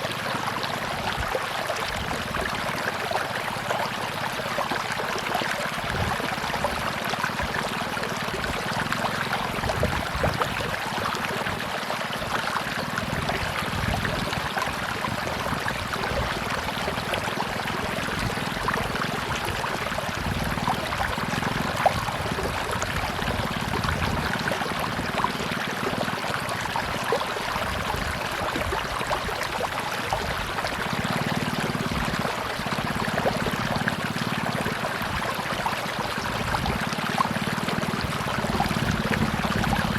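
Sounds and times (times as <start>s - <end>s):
river water rushing: 0.0s - 39.9s
small water splashes: 0.0s - 39.9s.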